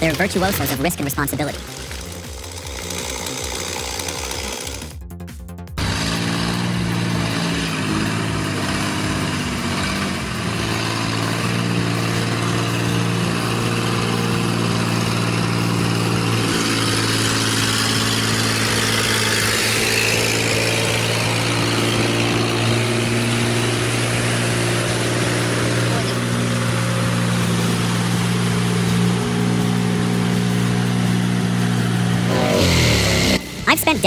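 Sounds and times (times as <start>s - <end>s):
large engine running: 0.0s - 34.0s.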